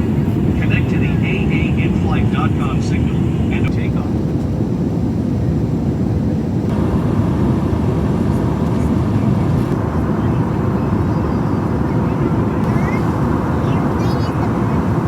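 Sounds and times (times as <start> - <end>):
aircraft engines and rushing air: 0.0 - 15.0.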